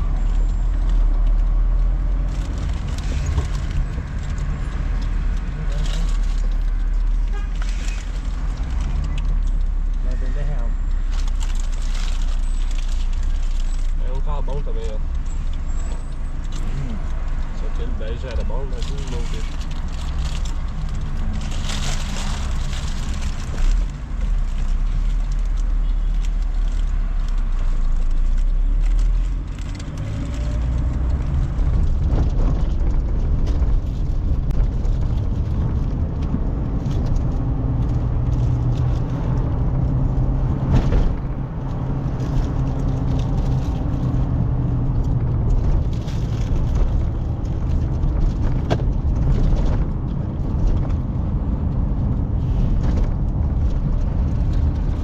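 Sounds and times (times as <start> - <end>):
car engine humming: 0.0 - 55.0
road noise: 0.0 - 55.0.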